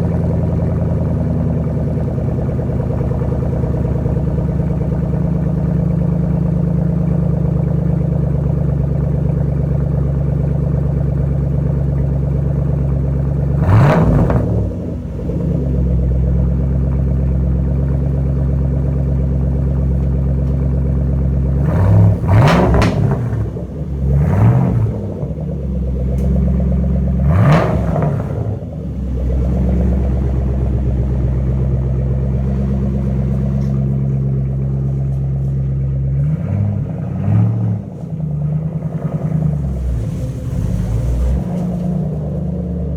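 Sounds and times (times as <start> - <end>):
car engine idling loudly: 0.0 - 42.9
engine throttle blips: 0.0 - 42.9.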